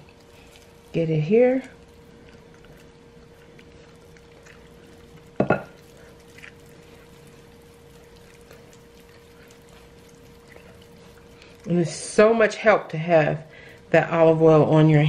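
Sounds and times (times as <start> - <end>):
steady low hum: 0.0 - 15.0
wet squishing of hands rolling meat: 0.0 - 15.0.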